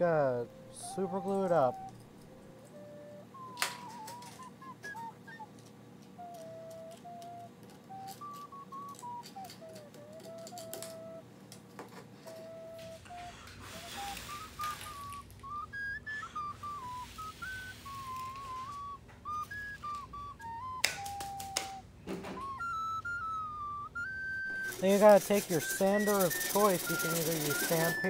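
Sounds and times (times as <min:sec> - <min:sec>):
high whistle-like melody: 0:00.0 - 0:11.3, 0:12.2 - 0:28.0.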